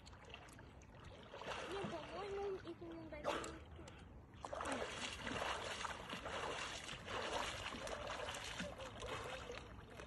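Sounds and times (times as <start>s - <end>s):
water splashing from swimming: 0.0s - 10.0s.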